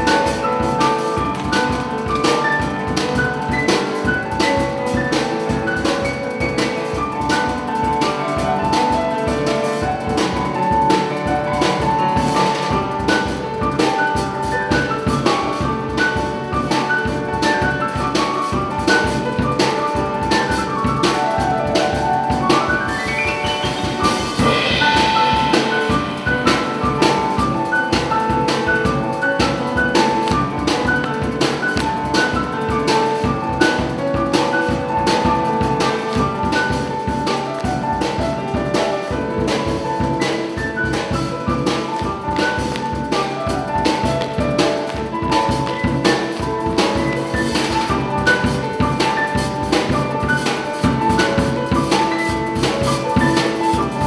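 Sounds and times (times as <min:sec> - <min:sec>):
drum kit beat: 0:00.0 - 0:54.0
piano playing: 0:00.0 - 0:54.0.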